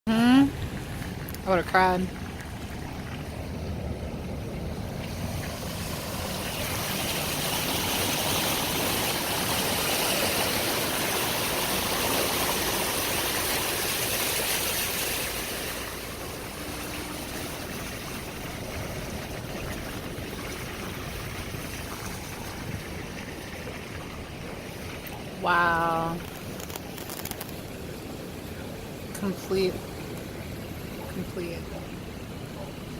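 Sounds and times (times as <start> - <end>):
vehicle rumble: 0.1 - 32.9
rushing floodwater: 0.2 - 32.9.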